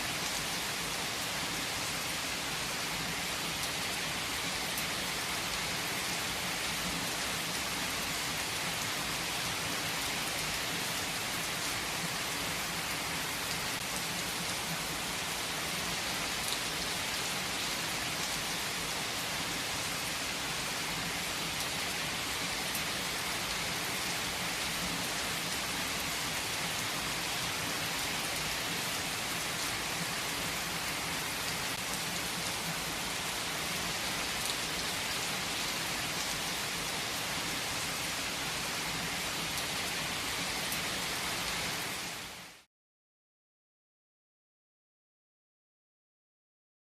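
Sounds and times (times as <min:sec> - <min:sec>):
heavy rain on hard surfaces: 0:00.0 - 0:42.7.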